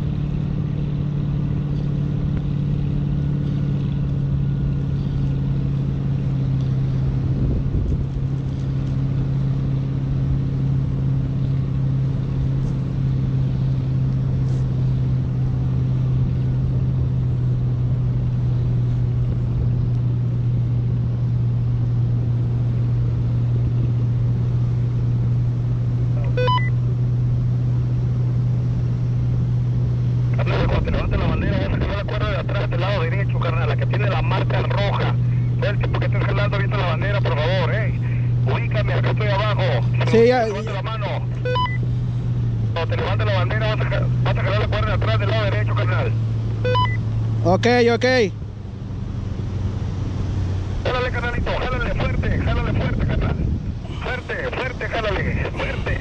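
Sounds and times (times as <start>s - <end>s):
low droning hum: 0.0s - 56.0s.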